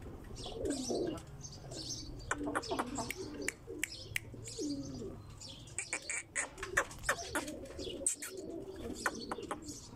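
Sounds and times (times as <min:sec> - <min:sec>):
low wavering cooing calls: 0:00.4 - 0:09.9.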